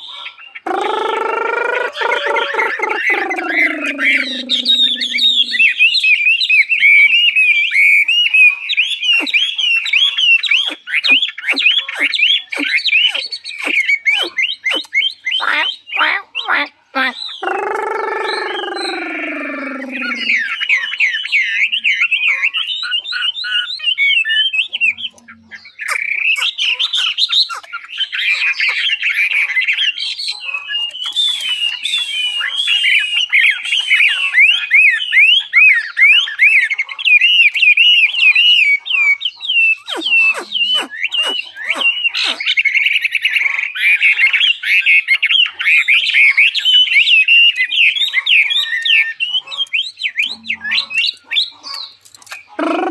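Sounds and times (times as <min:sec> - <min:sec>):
bird singing whistled song: 0:00.0 - 0:16.5, 0:17.1 - 0:51.9.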